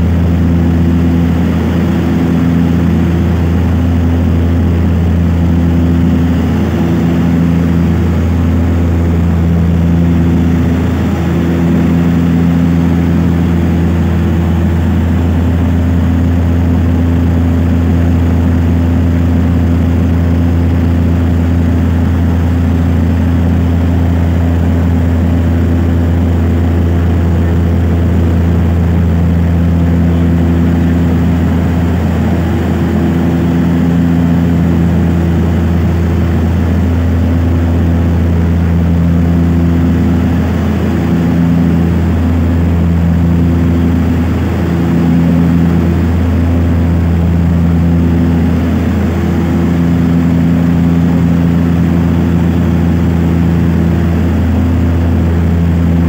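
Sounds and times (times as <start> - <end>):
humming tones: 0.0 - 56.0
propeller aircraft cabin drone: 0.0 - 56.0.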